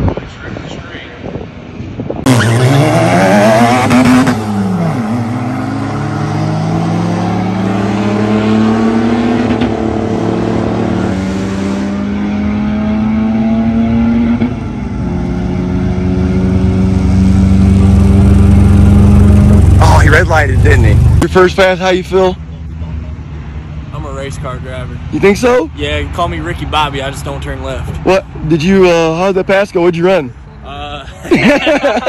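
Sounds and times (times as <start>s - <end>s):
racing car engine at full throttle: 0.0s - 30.6s.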